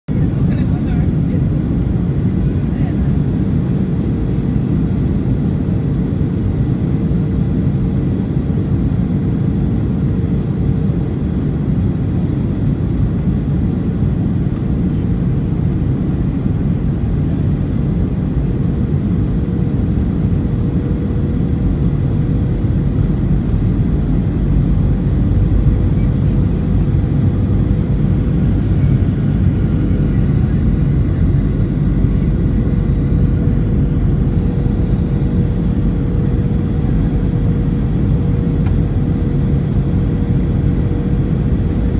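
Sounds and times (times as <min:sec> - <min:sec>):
airplane cabin engine rush: 0:00.1 - 0:41.9
steady hum: 0:00.1 - 0:41.9.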